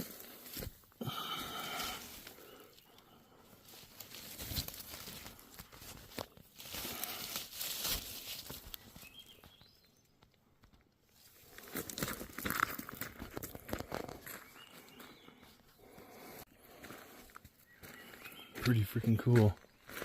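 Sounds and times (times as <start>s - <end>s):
footsteps crunching through brush: 0.0s - 9.8s, 11.1s - 20.0s.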